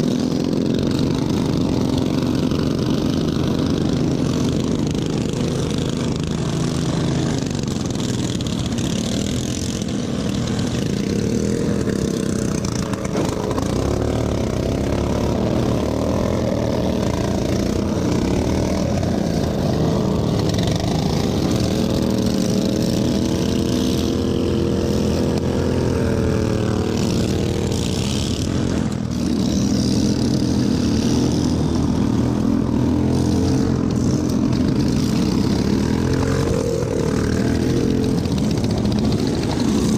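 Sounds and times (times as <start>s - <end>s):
small engine running hard: 0.0s - 39.9s.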